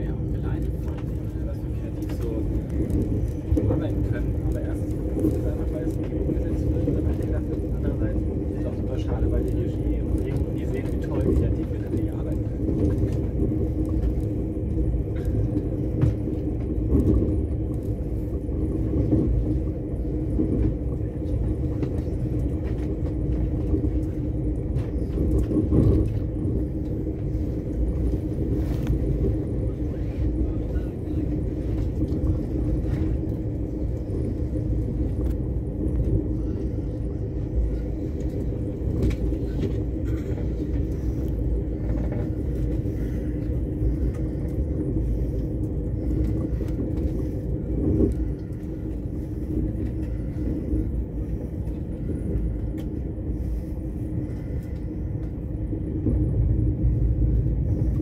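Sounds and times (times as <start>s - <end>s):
droning hum: 0.0s - 58.0s
train rumbling on track: 0.0s - 58.0s.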